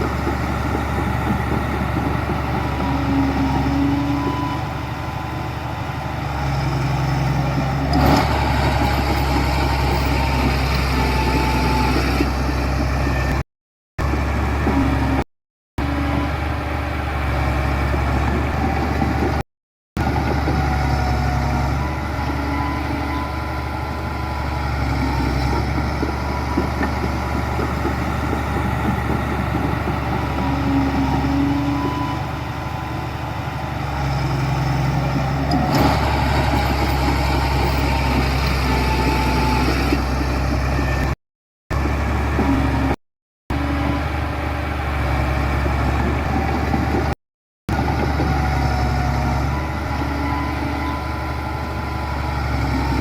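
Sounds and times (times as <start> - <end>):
heavy machinery diesel engines: 0.0 - 13.4, 14.0 - 15.2, 15.8 - 19.4, 20.0 - 53.0.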